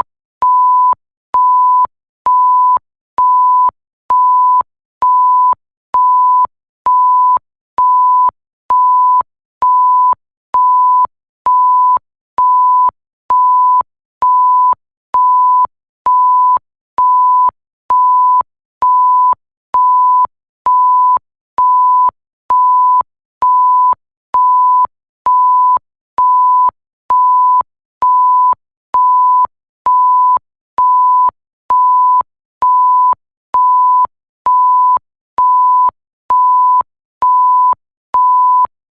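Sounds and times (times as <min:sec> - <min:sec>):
electronic censor bleep: 0:00.0 - 0:38.7.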